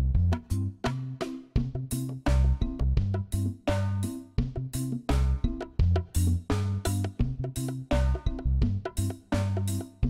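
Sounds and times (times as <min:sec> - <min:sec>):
music with drum kit and bass: 0:00.0 - 0:10.0.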